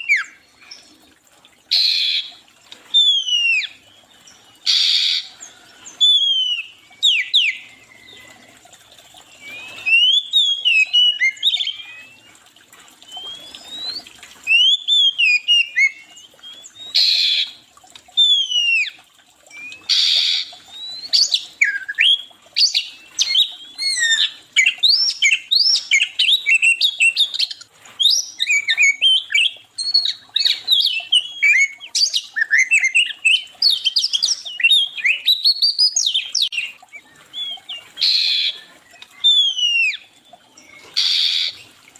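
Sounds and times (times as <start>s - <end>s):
songbirds chirping and whistling: 0.0s - 17.6s, 18.2s - 41.8s.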